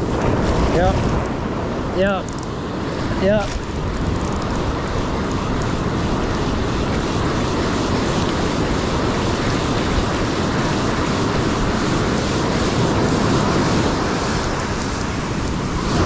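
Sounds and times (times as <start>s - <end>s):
ocean surf washing onto beach: 0.0s - 16.0s
wind buffeting microphone: 0.0s - 16.0s.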